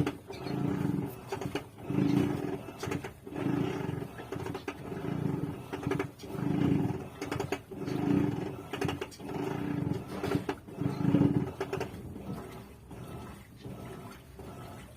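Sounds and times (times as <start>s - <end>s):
washing machine growling: 0.0s - 14.9s.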